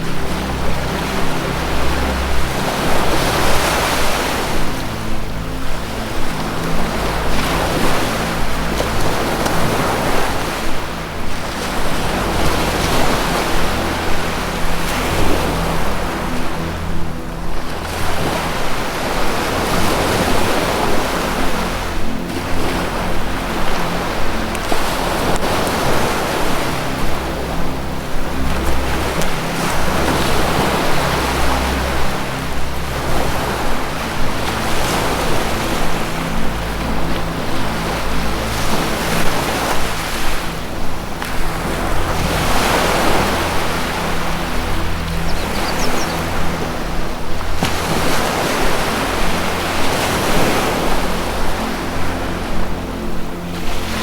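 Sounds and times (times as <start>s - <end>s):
ambient music drone: 0.0s - 54.0s
ocean waves washing: 0.0s - 54.0s.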